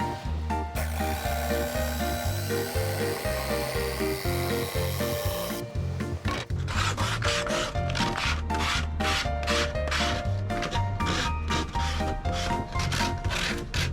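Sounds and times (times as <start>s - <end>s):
background music: 0.0s - 13.9s
power tool cutting wood: 0.0s - 13.9s
rasping strokes on wood: 0.0s - 13.9s.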